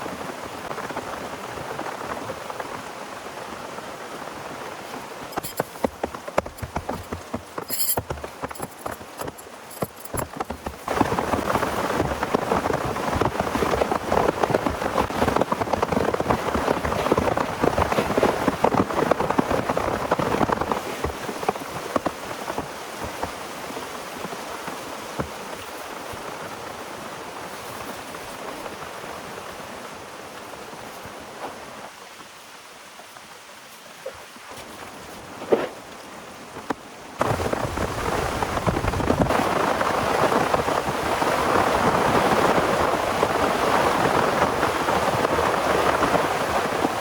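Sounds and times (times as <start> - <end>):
heavy rain falling on a surface: 0.0 - 47.0.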